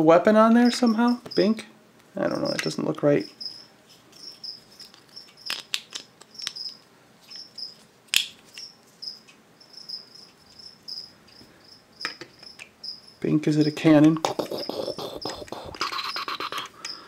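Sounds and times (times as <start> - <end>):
cricket chirping: 0.6 - 1.6, 2.3 - 5.7, 6.3 - 17.0.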